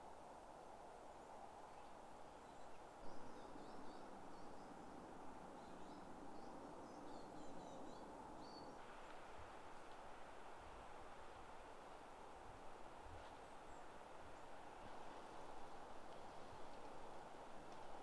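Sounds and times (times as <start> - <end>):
steady low hiss: 0.0 - 18.0
faint birdsong: 1.0 - 10.4, 12.8 - 18.0.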